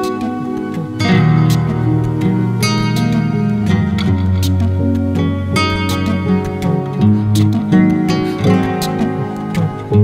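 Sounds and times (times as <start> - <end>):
plucked strings music: 0.0 - 10.0.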